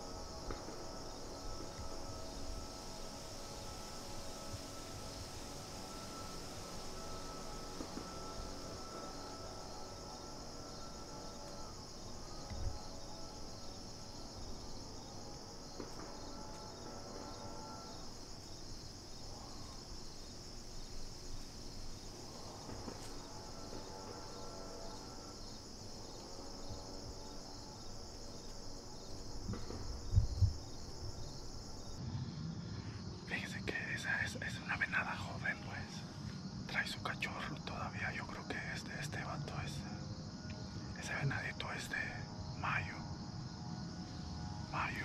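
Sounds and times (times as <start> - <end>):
faint hum: 0.0 - 45.0
high-pitched insect chorus: 0.0 - 45.0.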